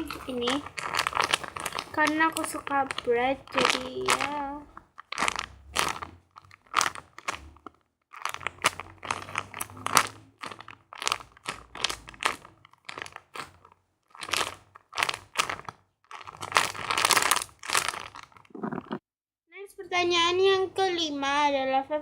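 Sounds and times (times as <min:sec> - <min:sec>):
foam toy squeezed rustling: 0:00.0 - 0:19.0.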